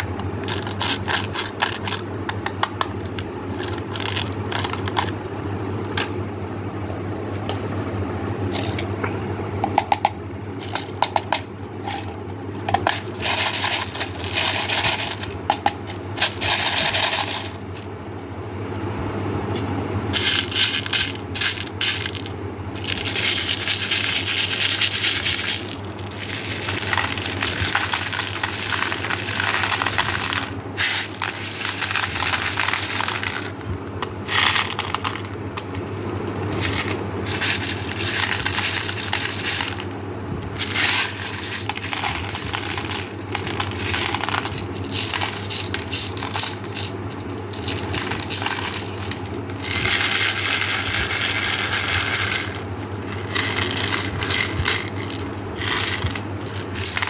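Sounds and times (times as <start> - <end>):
hard candies clattering: 0.0 - 5.2, 9.9 - 17.9, 20.1 - 33.6, 34.3 - 35.8, 36.5 - 40.0, 40.6 - 57.0
steady low hum: 0.0 - 57.0.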